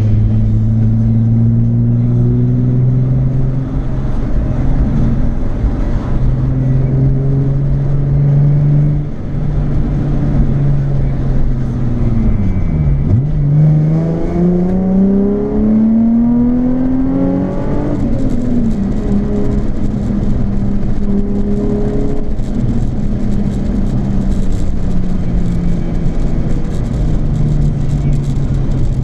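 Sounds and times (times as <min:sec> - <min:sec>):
car engine revving under acceleration: 0:00.0 - 0:29.0.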